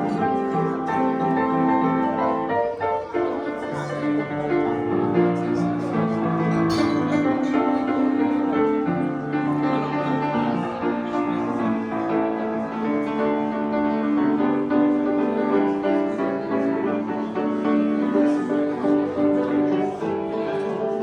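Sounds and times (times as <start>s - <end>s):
piano background music: 0.0s - 21.0s.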